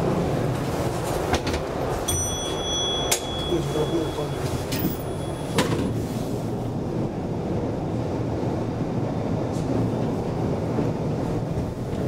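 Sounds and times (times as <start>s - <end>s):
elevator car rumbling: 0.0s - 12.0s.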